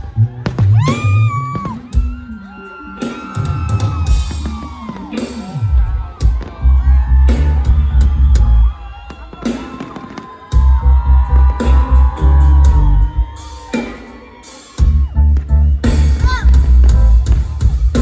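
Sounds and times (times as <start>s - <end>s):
crowd whooping: 0.0s - 18.0s
live concert music: 0.0s - 18.0s.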